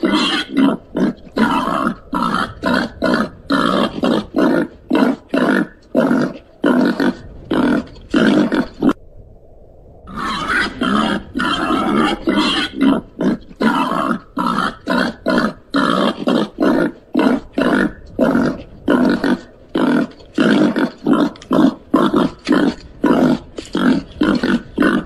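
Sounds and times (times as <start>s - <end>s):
babirusa rough calls: 0.0s - 9.0s, 10.1s - 25.0s.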